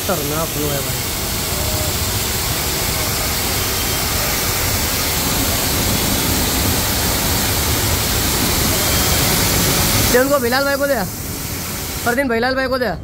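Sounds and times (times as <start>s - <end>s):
pressure washer water jet hiss: 0.0s - 12.4s.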